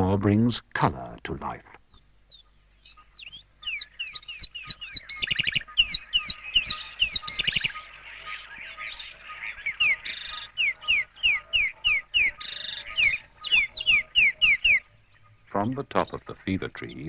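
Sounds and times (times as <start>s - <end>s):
birds whistling falling notes: 1.9s - 17.0s.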